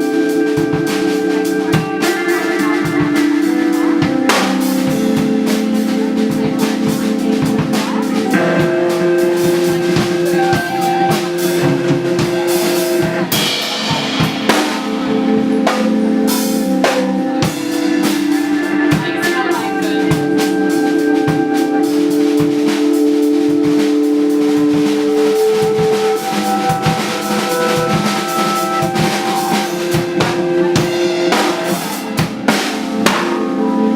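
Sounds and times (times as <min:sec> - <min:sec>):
drum kit beat: 0:00.0 - 0:33.9
long held chords: 0:00.0 - 0:33.9.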